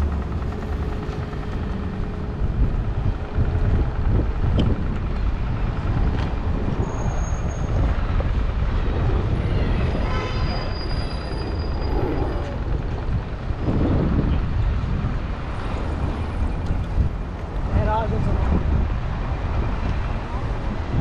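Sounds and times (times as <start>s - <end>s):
road traffic rumble: 0.0s - 21.0s
wind on microphone: 0.0s - 21.0s.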